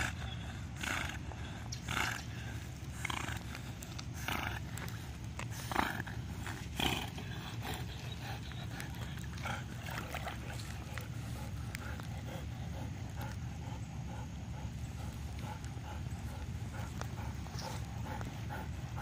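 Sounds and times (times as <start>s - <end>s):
dog huffing breaths while swimming: 0.0s - 19.0s
steady low rumble: 0.0s - 19.0s.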